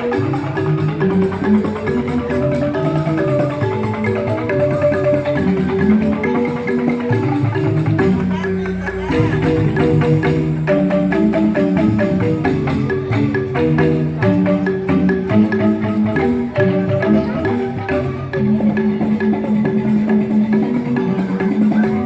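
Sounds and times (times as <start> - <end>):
bamboo xylophones struck with mallets: 0.0 - 22.0
steady percussive pulse: 0.0 - 22.0.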